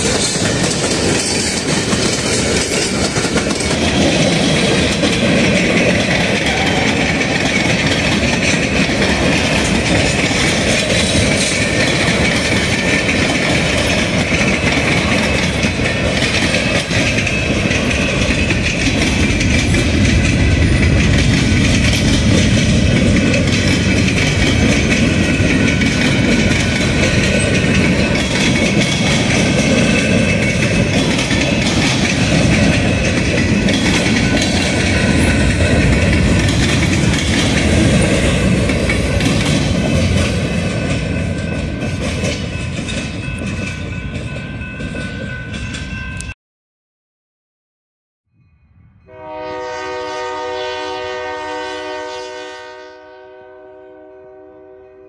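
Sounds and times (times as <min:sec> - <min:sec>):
freight train wheels clattering: 0:00.0 - 0:46.4.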